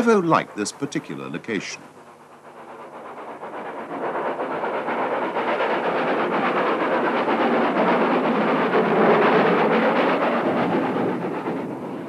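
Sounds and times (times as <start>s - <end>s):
steam locomotive working: 0.0s - 12.0s.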